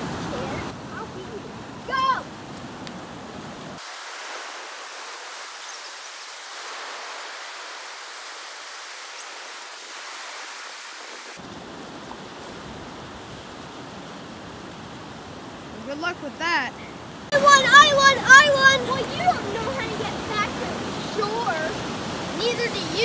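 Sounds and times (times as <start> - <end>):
ocean surf breaking on rocks: 0.0 - 23.0.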